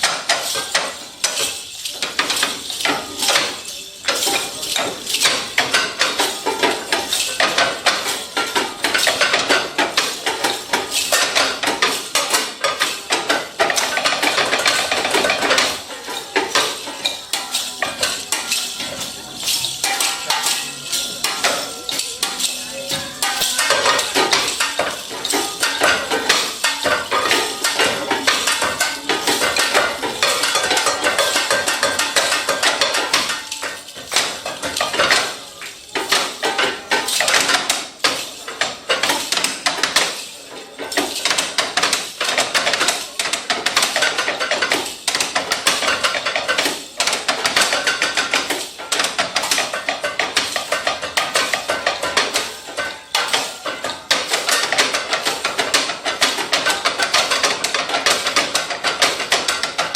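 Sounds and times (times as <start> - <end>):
rapid metallic percussion clattering: 0.0 - 59.9.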